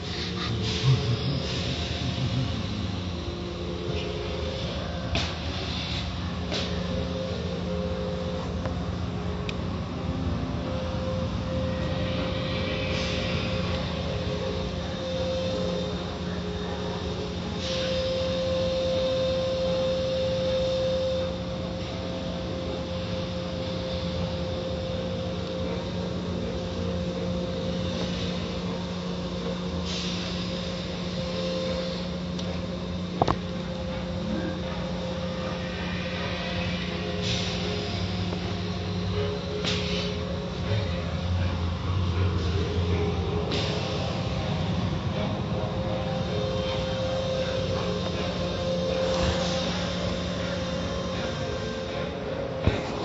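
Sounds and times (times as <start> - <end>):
car wash machinery hum: 0.0 - 53.0.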